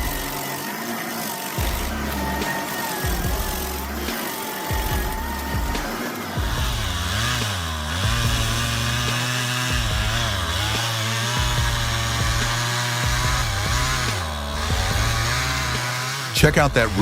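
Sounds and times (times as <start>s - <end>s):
chainsaw cutting: 0.0s - 17.0s.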